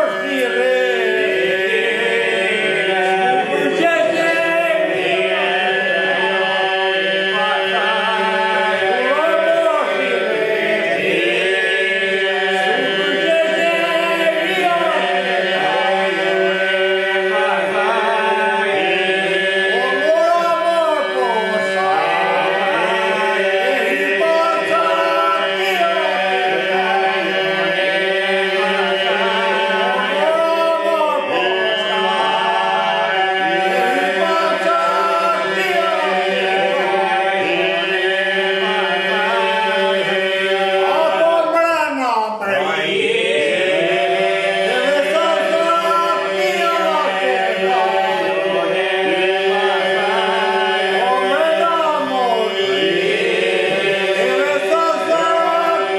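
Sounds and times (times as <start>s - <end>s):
men's polyphonic singing: 0.0s - 55.9s.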